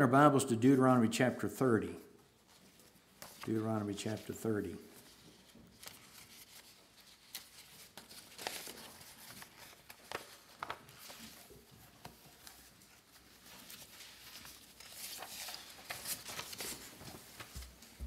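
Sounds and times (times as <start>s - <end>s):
paper pages rustling: 2.4s - 18.0s.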